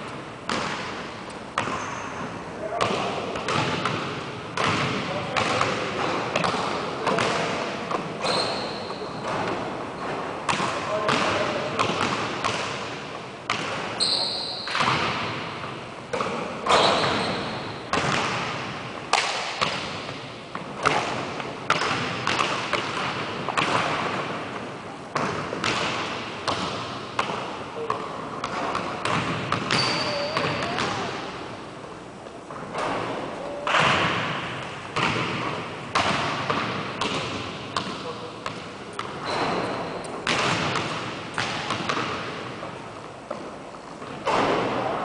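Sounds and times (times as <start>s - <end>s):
basketballs bouncing on wood floor: 0.5s - 24.4s, 25.1s - 31.4s, 32.5s - 44.8s.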